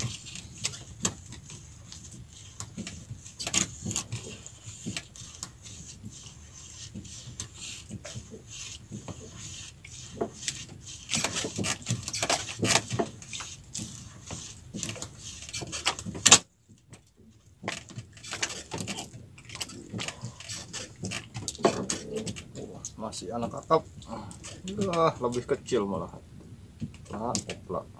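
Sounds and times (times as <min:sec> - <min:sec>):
fishing line rattling and rustling: 0:00.0 - 0:25.7.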